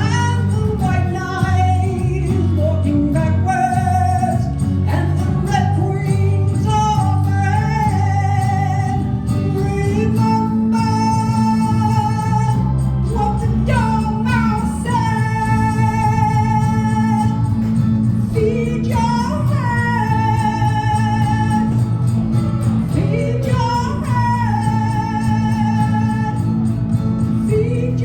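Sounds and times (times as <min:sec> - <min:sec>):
woman singing: 0:00.0 - 0:22.0, 0:22.8 - 0:28.0
electric guitar and bass: 0:00.0 - 0:28.0.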